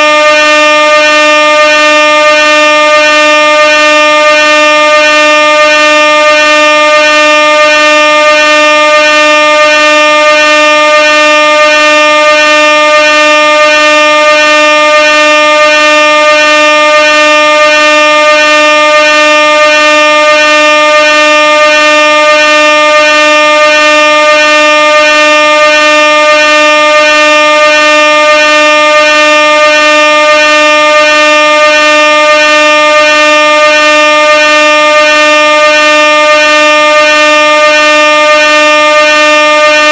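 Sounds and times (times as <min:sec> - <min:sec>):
air horn steady tone: 0:00.0 - 0:39.9.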